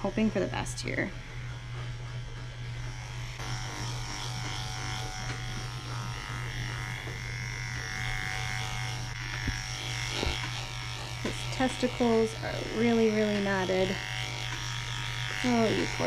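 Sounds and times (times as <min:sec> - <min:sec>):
electric clippers humming: 0:00.0 - 0:16.0.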